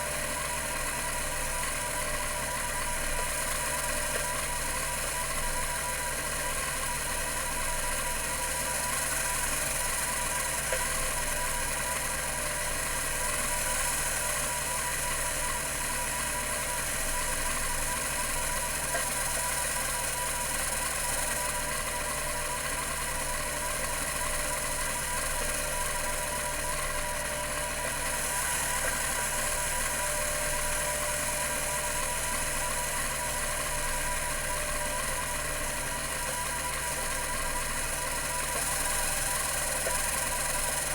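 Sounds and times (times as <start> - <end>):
hard drive humming and whining: 0.0 - 40.9.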